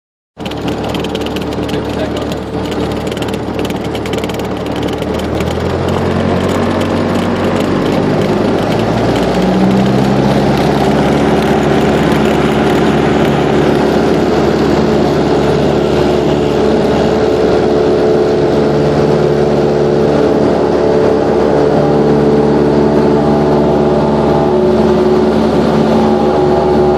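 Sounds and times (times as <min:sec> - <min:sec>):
piston engine and propeller: 0:00.4 - 0:26.9.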